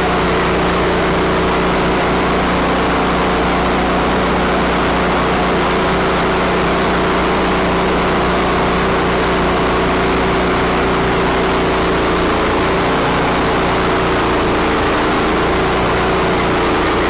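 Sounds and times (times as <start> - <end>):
sawmill engine running steadily: 0.0 - 17.0.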